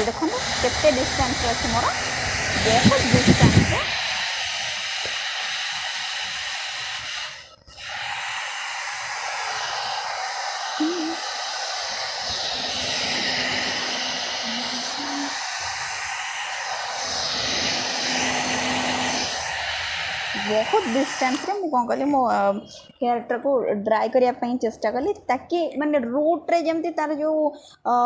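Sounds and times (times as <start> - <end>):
hair dryer blowing: 0.0 - 22.6.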